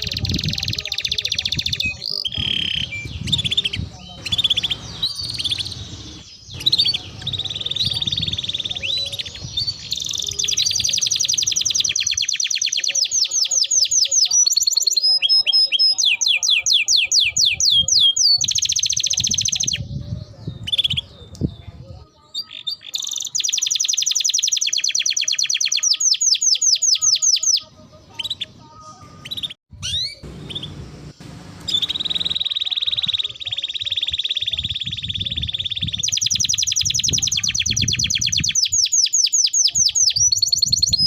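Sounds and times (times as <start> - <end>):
canary singing trills: 0.0 - 41.0.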